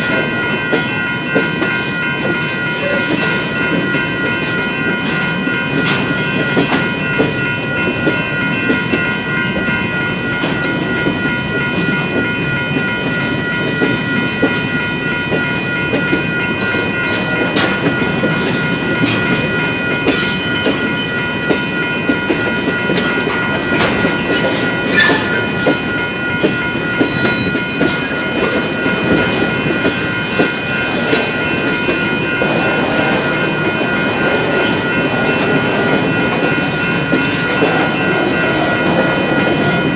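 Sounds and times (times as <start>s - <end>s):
crossing warning bells ringing: 0.0s - 39.9s
freight train wheels clacking: 0.0s - 39.9s.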